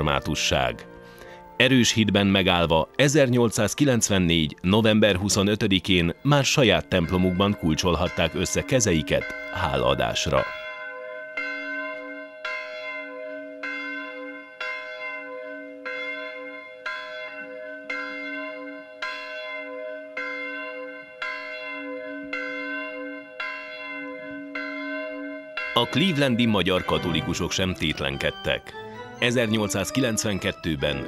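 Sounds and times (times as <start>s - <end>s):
church bell tolling: 0.0s - 31.0s.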